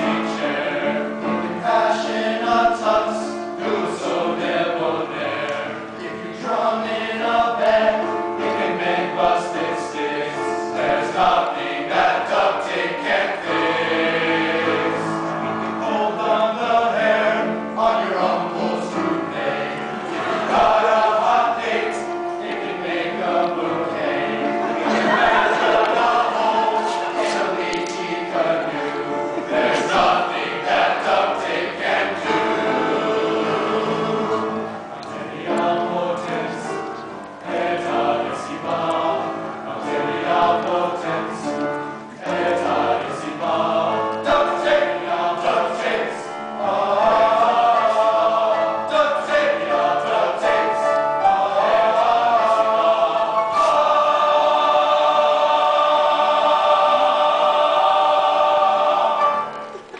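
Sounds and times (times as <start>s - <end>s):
men's choir singing in harmony: 0.0s - 59.9s.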